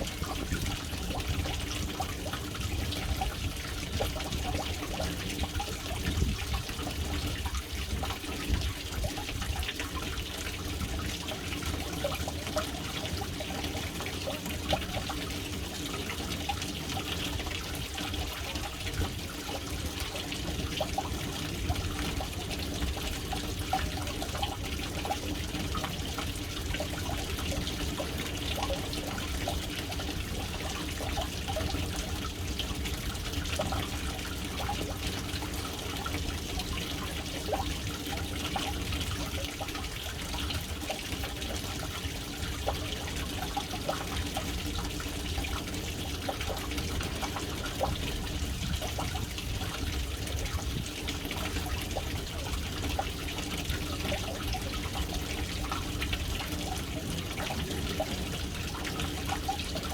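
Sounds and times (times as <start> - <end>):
water splashing into a tank: 0.0 - 59.9.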